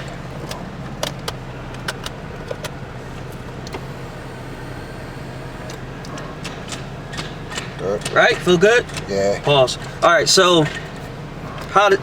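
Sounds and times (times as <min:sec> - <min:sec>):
gear shifter clicks: 0:00.0 - 0:11.9
car engine idling: 0:00.0 - 0:12.0.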